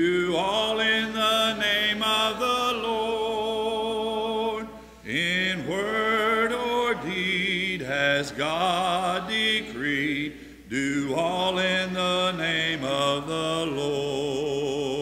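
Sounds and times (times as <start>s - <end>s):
congregation singing a hymn: 0.0s - 15.0s
man singing: 0.0s - 15.0s.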